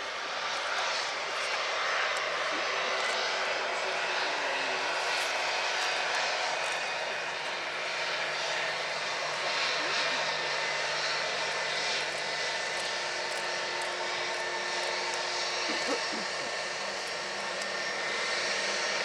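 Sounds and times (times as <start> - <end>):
airliner engines running: 0.0 - 19.0.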